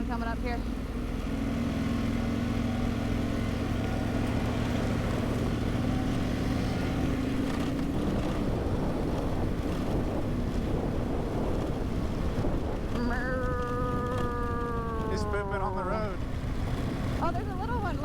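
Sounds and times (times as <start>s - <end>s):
motorcycle engine at low speed: 0.0s - 18.0s
wind rumble on microphone: 0.0s - 18.0s.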